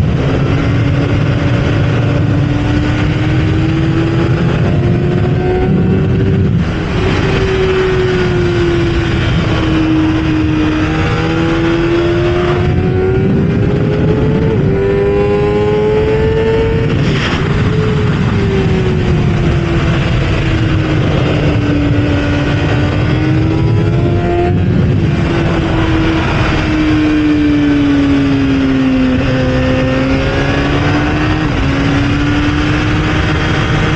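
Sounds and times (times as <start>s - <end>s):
motorcycle engine at speed: 0.0s - 33.9s
wind noise: 0.0s - 33.9s.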